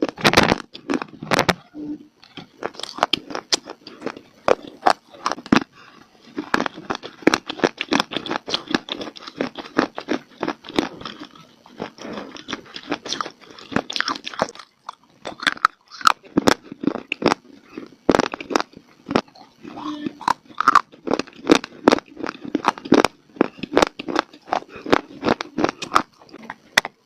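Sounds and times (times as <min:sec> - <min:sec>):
crunching of dry clay being chewed: 0:00.0 - 0:01.6, 0:02.2 - 0:27.0.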